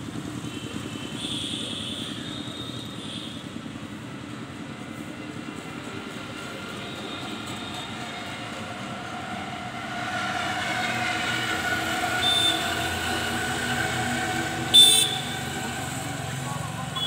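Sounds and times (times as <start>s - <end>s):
motorbike engine humming: 0.0s - 17.0s
road traffic: 0.0s - 17.0s.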